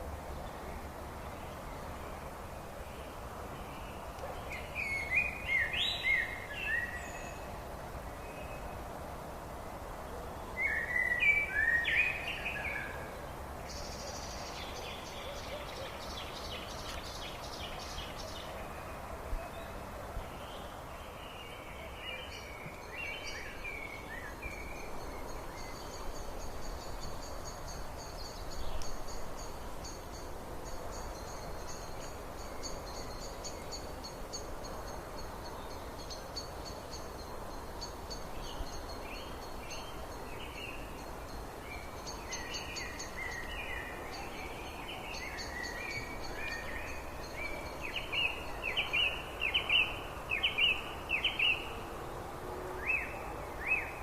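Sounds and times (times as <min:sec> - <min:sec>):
steady outdoor hiss: 0:00.0 - 0:54.0
birds singing and calling: 0:00.4 - 0:08.8, 0:10.3 - 0:51.8.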